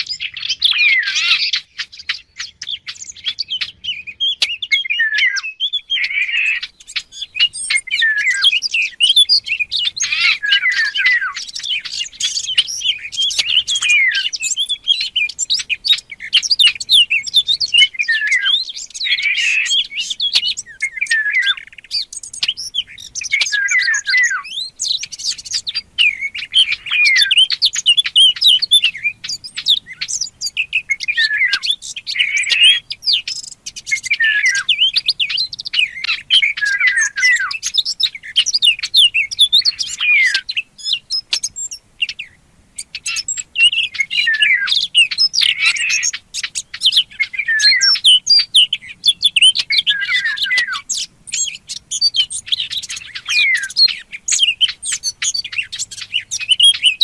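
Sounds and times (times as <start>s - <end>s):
songbird warbling: 0.0s - 57.0s.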